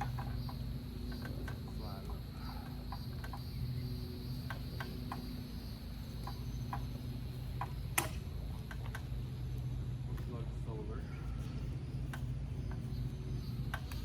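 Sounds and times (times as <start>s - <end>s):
insect chirring: 0.0s - 14.0s
low steady hum: 0.0s - 14.0s.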